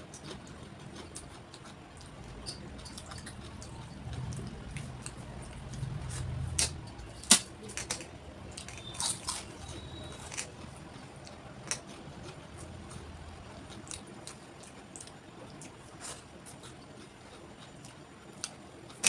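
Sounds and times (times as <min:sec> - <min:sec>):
chewing and wet mouth sounds: 0:00.0 - 0:19.0.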